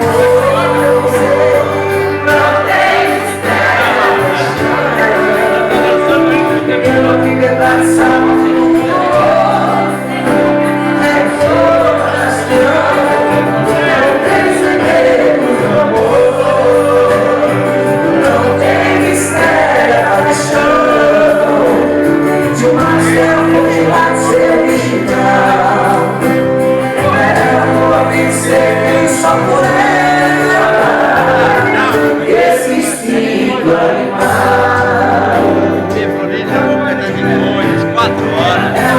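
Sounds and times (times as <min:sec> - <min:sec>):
live band playing: 0:00.0 - 0:38.9
voices singing: 0:00.0 - 0:38.9.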